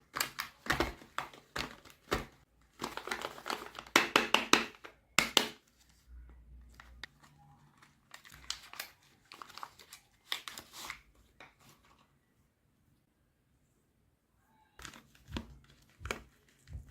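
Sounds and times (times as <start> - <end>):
crinkling and rustling: 0.0 - 5.0, 5.6 - 12.3, 14.8 - 16.9.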